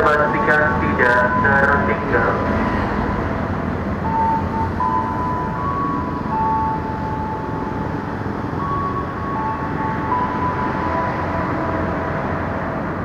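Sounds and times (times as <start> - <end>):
electric train rumble: 0.0 - 13.0
train motor whine shifting pitch: 0.0 - 13.0.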